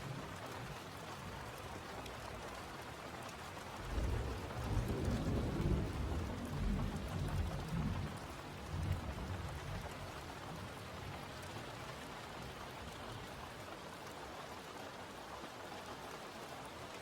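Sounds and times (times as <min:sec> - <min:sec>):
rainfall on a surface: 0:00.0 - 0:17.0.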